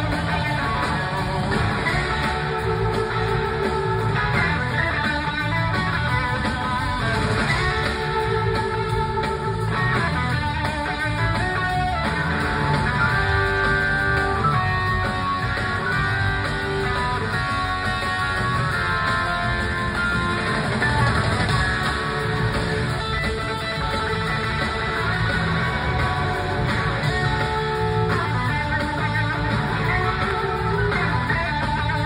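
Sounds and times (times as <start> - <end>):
electric guitar lines: 0.0 - 32.0
live rock band: 0.0 - 32.0.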